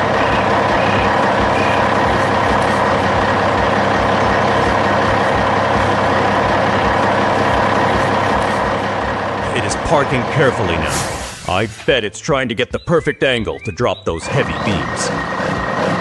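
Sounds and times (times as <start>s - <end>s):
dump truck engine running: 0.0s - 16.0s.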